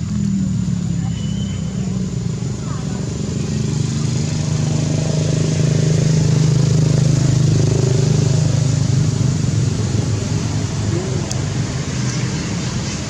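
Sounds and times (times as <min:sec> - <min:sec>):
engine running at low pitch: 0:00.0 - 0:13.0.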